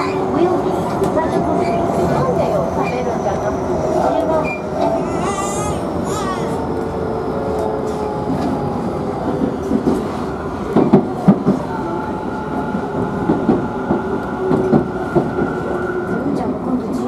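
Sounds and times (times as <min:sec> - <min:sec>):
steady train whine: 0:00.0 - 0:17.0
train rumbling on rails: 0:00.0 - 0:17.0.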